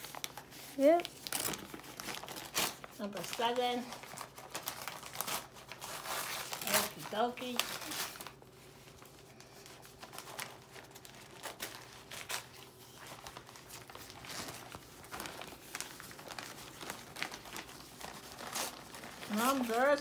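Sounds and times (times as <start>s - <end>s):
paper tearing: 0.0s - 8.4s, 10.0s - 20.0s
newspaper crinkling and rustling: 0.0s - 20.0s.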